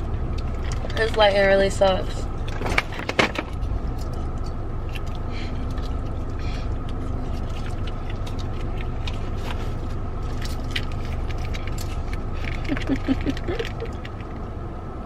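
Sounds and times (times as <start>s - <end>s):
car engine idling: 0.0s - 15.0s
car ventilation running: 0.0s - 15.0s.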